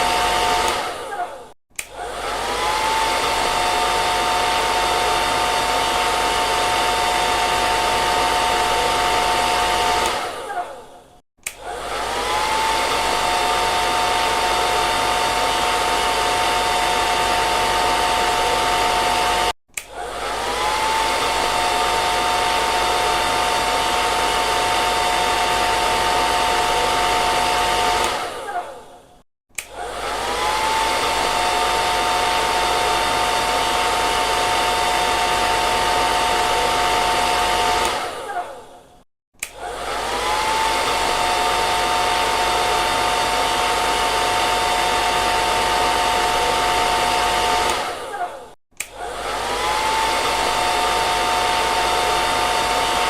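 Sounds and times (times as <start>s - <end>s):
hair dryer blowing: 0.0s - 53.0s.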